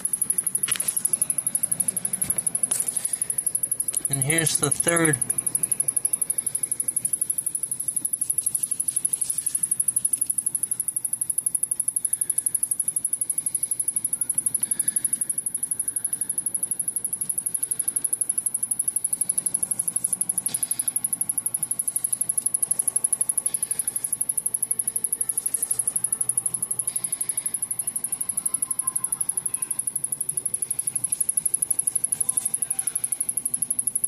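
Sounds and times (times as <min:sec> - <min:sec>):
television high-pitched ticking chirp: 0:00.0 - 0:34.0.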